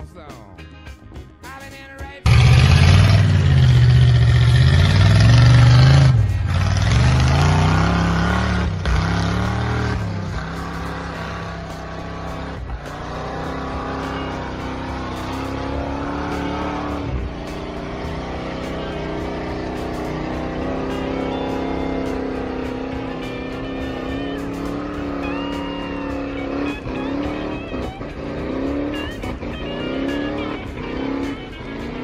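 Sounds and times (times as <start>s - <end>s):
pickup truck engine revving: 2.2s - 32.0s.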